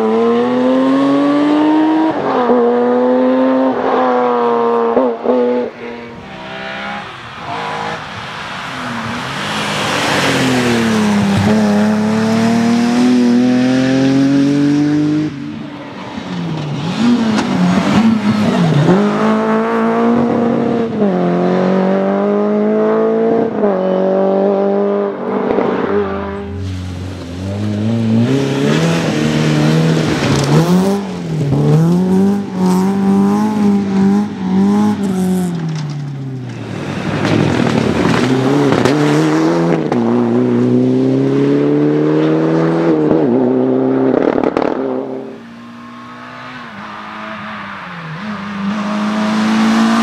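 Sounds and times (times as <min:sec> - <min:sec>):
rally car engines accelerating: 0:00.0 - 0:50.0.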